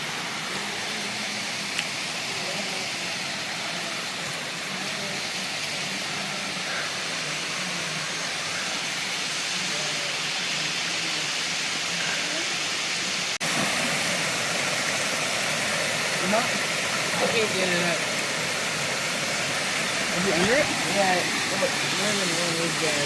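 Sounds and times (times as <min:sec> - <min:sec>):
creek water rushing: 0:00.0 - 0:23.0.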